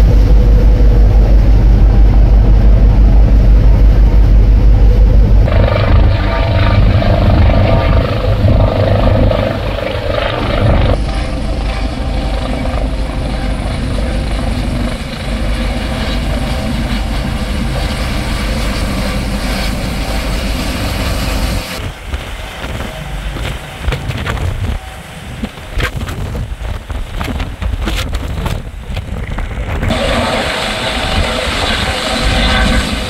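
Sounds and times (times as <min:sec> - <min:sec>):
helicopter rotor and engine rumble: 0:00.0 - 0:33.0
wind buffeting microphone: 0:00.0 - 0:33.0.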